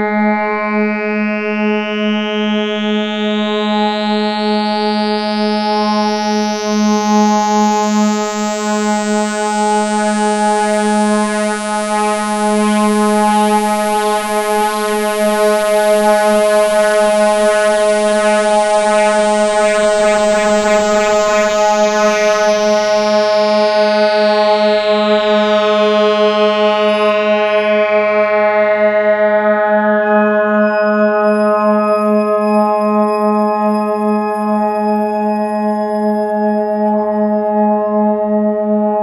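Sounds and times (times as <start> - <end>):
buzzy synthesizer drone: 4.7 - 36.4.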